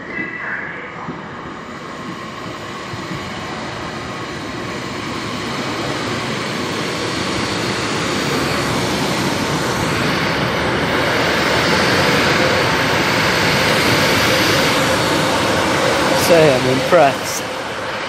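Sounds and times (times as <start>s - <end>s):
diesel train passing: 0.0s - 18.0s.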